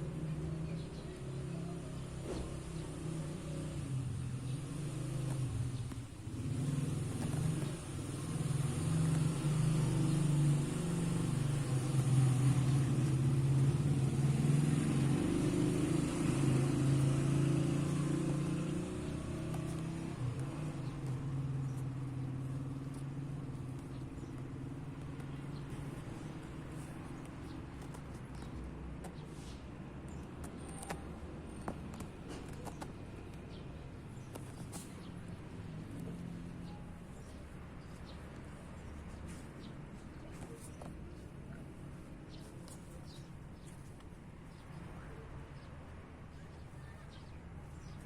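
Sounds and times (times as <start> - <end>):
low engine rumble: 0.0 - 48.0.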